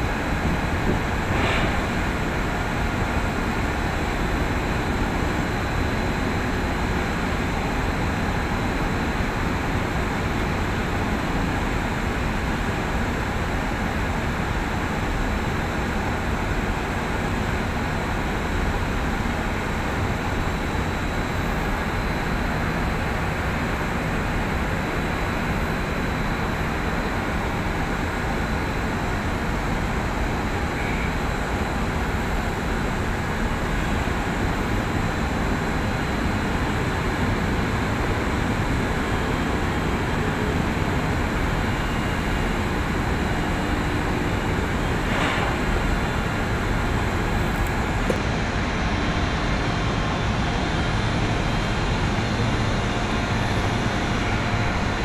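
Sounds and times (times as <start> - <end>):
crane machinery drone: 0.0 - 55.0.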